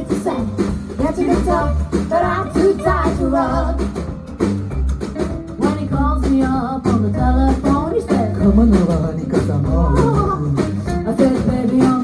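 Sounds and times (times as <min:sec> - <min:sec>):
rockabilly band with singing: 0:00.0 - 0:12.0.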